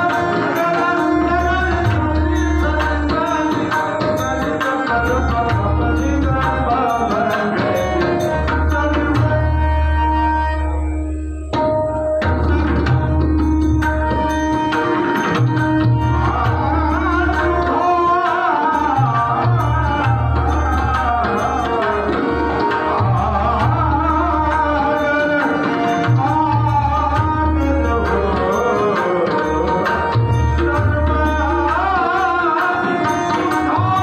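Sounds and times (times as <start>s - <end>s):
man singing: 0.0s - 10.7s, 12.3s - 34.0s
harmonium drone: 0.0s - 34.0s
tabla rhythm: 0.0s - 34.0s.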